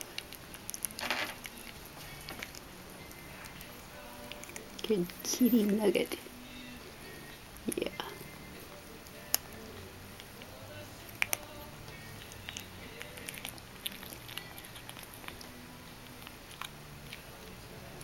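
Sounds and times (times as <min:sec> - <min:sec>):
kitten crunching dry treats: 0:00.0 - 0:18.0.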